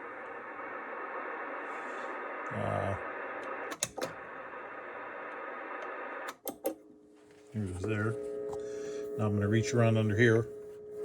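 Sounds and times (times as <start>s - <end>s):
buzzy radio hum: 0.0s - 6.3s, 7.0s - 11.0s
radio crackling: 0.0s - 6.3s, 7.5s - 11.0s.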